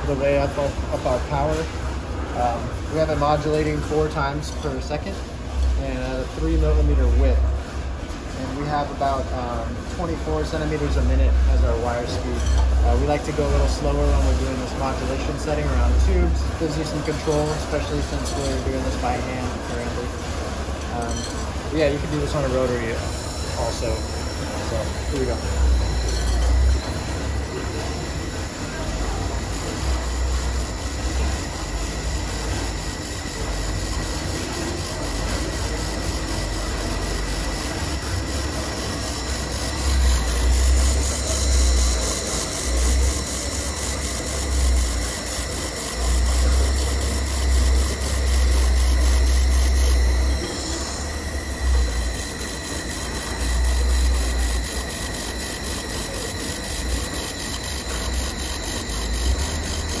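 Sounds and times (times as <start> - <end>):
laser welder whine with ticking: 0.0 - 60.0.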